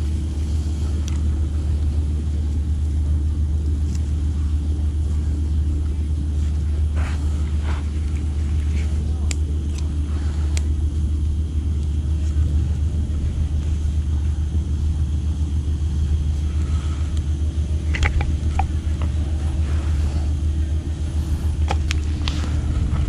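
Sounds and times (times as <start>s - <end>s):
bike clicks and rattles: 0.0s - 23.0s
wind and tyres rumbling: 0.0s - 23.0s.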